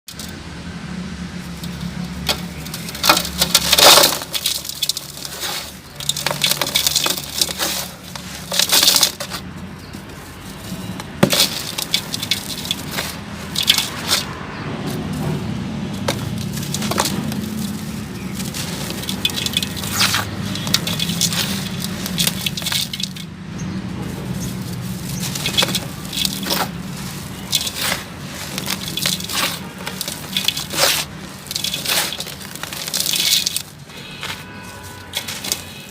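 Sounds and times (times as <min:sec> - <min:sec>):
sand-cement crumbling and crunching: 0:01.3 - 0:35.9.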